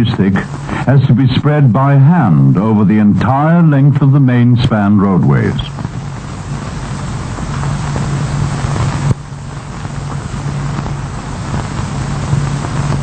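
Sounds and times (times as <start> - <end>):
even hiss: 0.0 - 13.0
low hum: 0.0 - 13.0.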